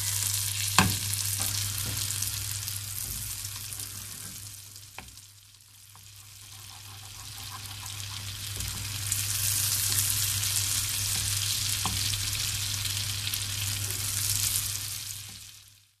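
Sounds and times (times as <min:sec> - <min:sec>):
omelette sizzling in a pan: 0:00.0 - 0:16.0.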